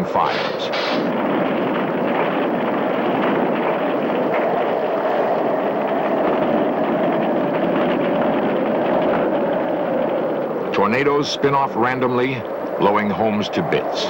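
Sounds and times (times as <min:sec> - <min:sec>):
strong wind howling: 0:00.0 - 0:14.0.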